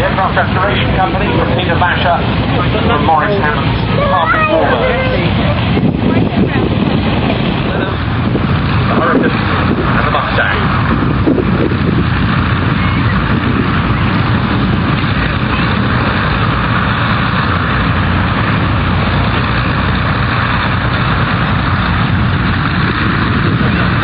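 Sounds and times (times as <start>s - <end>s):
piston aircraft engines droning: 0.0s - 24.0s
wind buffeting microphone: 0.0s - 24.0s.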